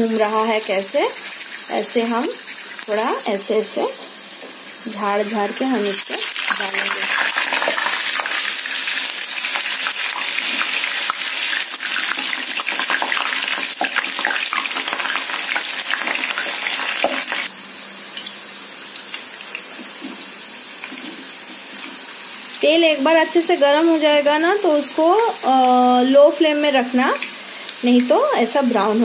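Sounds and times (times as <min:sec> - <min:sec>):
potato slices sizzling in oil: 0:00.0 - 0:29.0.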